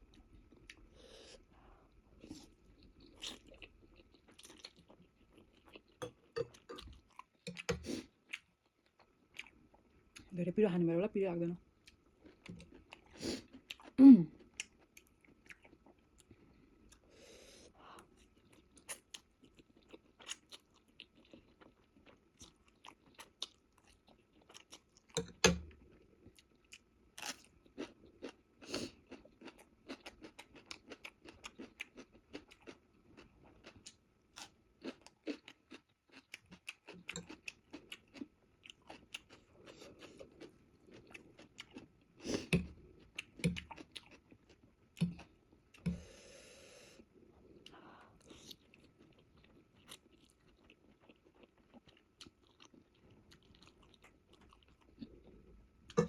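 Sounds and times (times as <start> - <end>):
person chewing noodles: 0.0 - 10.3, 11.8 - 46.5, 47.3 - 56.0.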